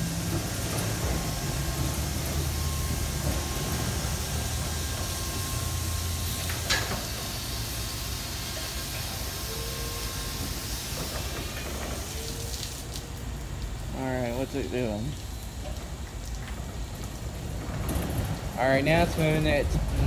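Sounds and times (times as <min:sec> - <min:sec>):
water spray hissing: 0:00.0 - 0:17.3
pumps humming: 0:00.0 - 0:20.0.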